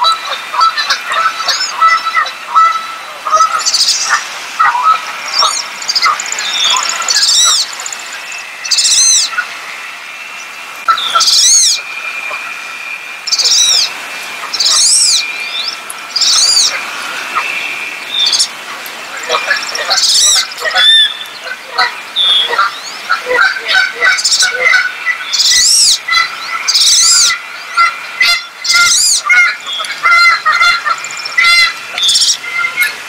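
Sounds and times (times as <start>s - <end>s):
wood duck whistled calls: 0.0s - 18.6s, 19.2s - 33.0s
lower bird chirps: 3.4s - 4.2s, 4.8s - 23.1s, 24.1s - 33.0s.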